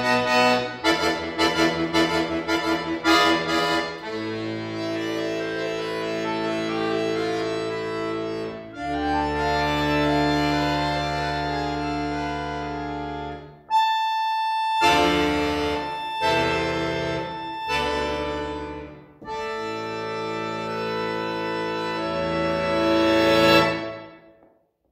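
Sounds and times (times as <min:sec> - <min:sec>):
accordion playing chords: 0:00.0 - 0:24.5.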